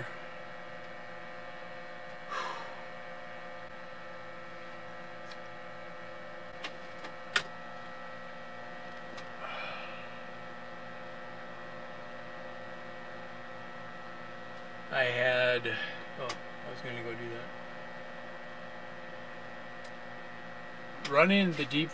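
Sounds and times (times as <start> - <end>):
power inverter electrical hum: 0.0 - 21.9.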